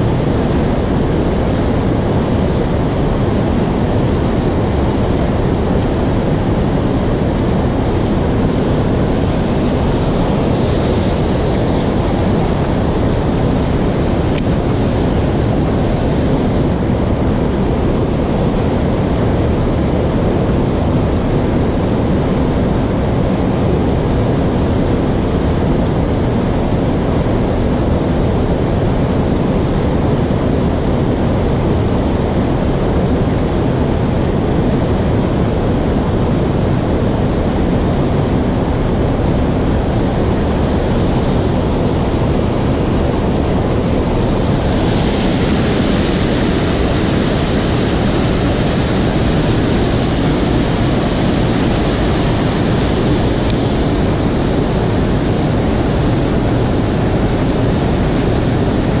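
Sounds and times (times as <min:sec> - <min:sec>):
water rushing through dam: 0:00.0 - 0:59.0.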